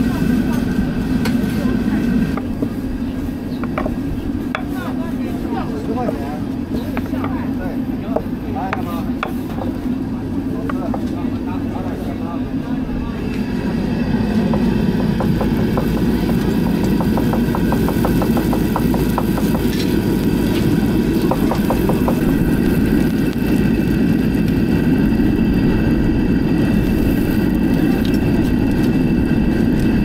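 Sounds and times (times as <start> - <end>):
low mechanical drone: 0.0 - 30.0.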